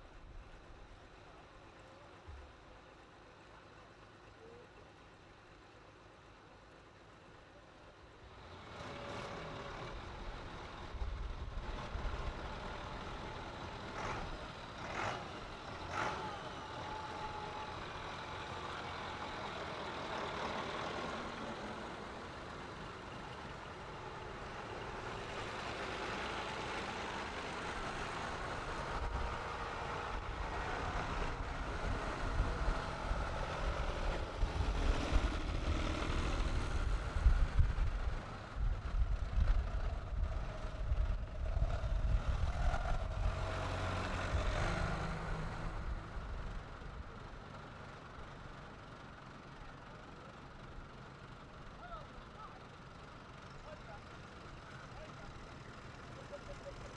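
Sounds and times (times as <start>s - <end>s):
tractor engines running: 8.0s - 56.9s.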